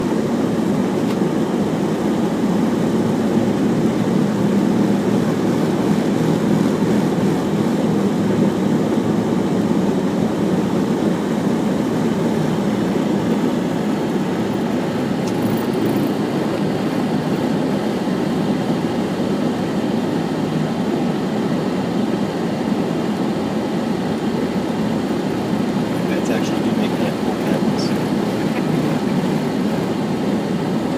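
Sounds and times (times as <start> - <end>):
low rumble of traffic: 0.0 - 30.9.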